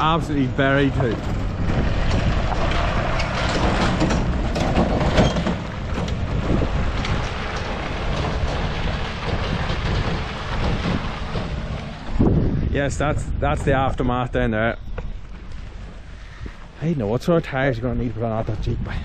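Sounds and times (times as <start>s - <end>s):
low rumble: 0.0s - 19.0s
trailer rattling and clanking: 0.0s - 19.0s.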